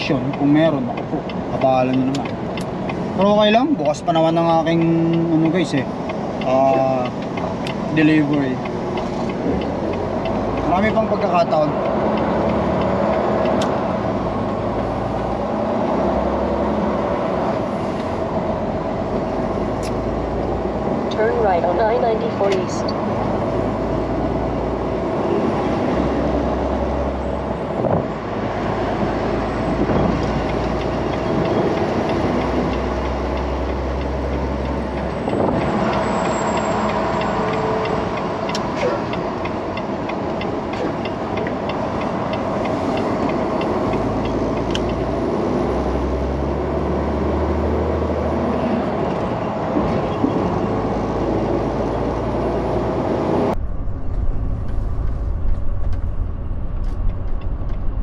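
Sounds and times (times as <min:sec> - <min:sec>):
road noise: 0:00.0 - 0:58.0
truck diesel engine rumble: 0:00.0 - 0:58.0.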